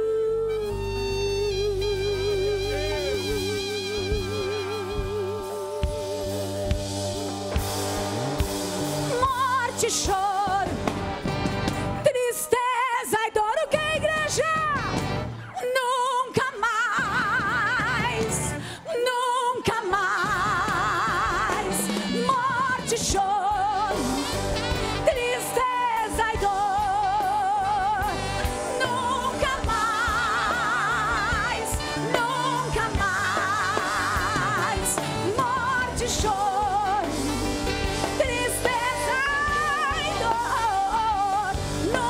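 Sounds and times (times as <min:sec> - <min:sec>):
singers with heavy vibrato: 0:00.0 - 0:10.8, 0:12.0 - 0:42.0
band with drums and keyboard: 0:00.0 - 0:42.0.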